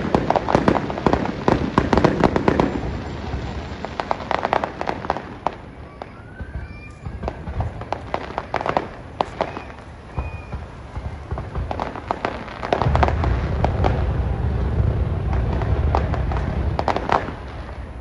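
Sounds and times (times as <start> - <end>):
fireworks bangs: 0.0 - 18.0
fireworks rumbling and crackling: 0.0 - 18.0.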